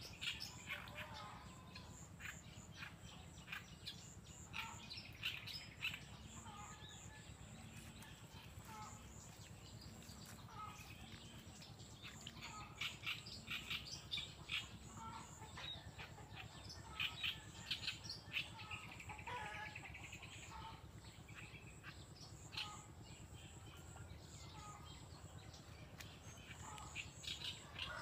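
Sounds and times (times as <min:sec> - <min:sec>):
faint outdoor background: 0:00.0 - 0:28.0
small birds chirping: 0:00.0 - 0:28.0.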